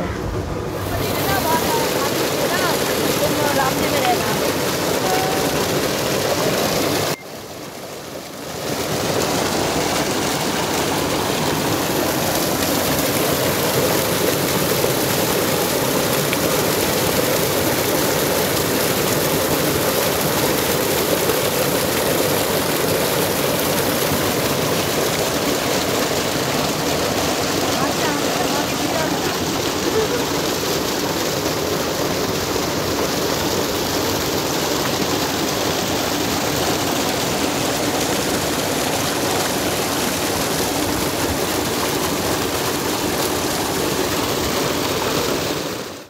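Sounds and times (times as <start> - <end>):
water gushing into tank: 0.0 - 46.0.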